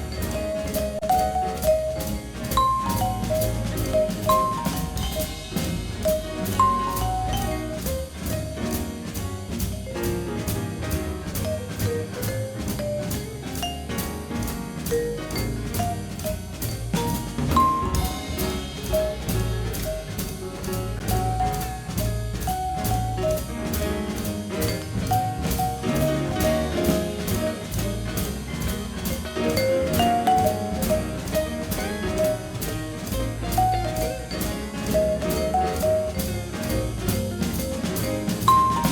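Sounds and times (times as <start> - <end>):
drum kit beat: 0.0 - 38.9
music melody: 0.0 - 38.9.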